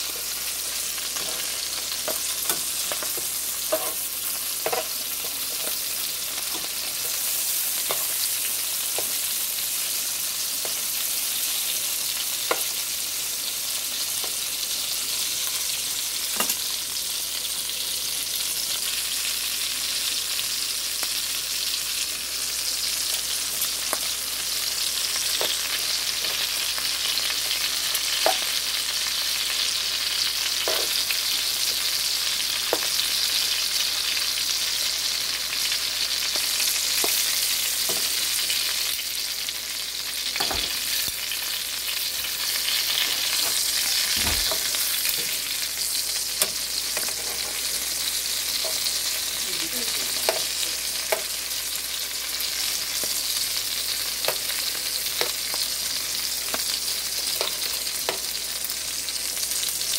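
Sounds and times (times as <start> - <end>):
sausages sizzling in frying pan: 0.0 - 59.9.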